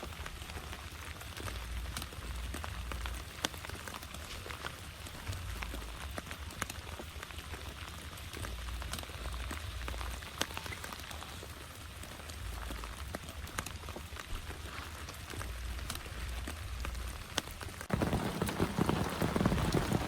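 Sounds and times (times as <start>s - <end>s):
heavy rain falling: 0.0s - 20.0s
raindrops tapping close by: 0.0s - 20.0s.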